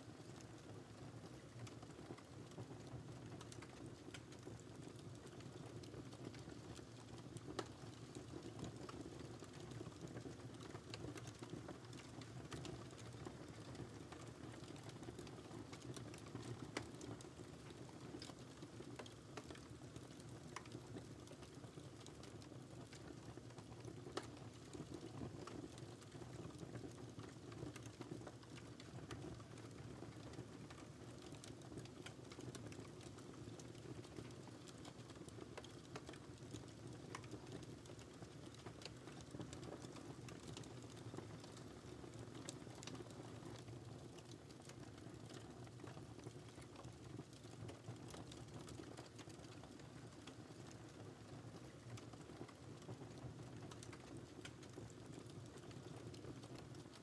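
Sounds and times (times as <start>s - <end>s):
wood fire crackling: 0.2s - 57.0s.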